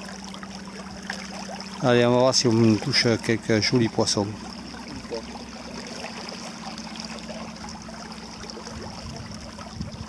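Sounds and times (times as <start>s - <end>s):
steady low hum: 0.0s - 10.0s
water splashing along boat hull: 0.0s - 10.0s.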